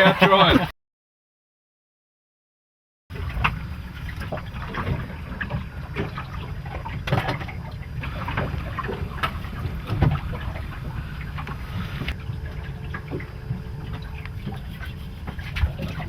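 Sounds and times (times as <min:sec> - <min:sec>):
steady low rumble: 0:03.1 - 0:16.0
water splashing against boat hull: 0:03.1 - 0:16.0.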